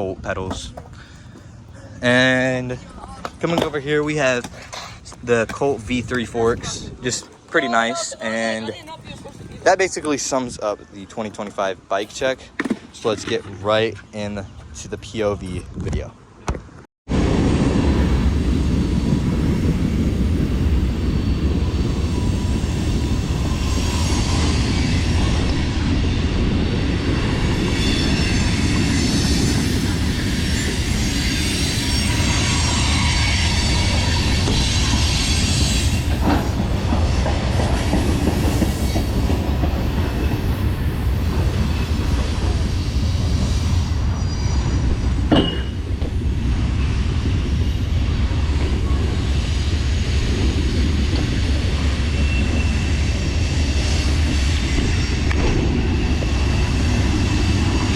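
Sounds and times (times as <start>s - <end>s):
wind on microphone: 5.1s - 10.6s, 14.6s - 57.9s.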